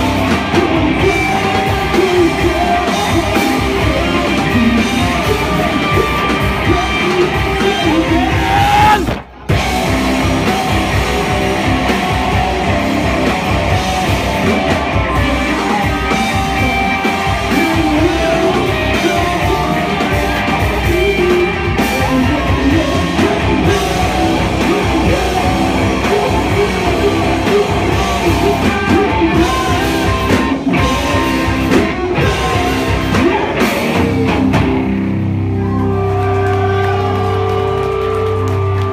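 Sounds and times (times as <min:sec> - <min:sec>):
sung and shouted vocals: 0:00.0 - 0:09.7, 0:10.4 - 0:34.8
distorted electric guitars: 0:00.0 - 0:38.9
live rock band playing: 0:00.0 - 0:38.9.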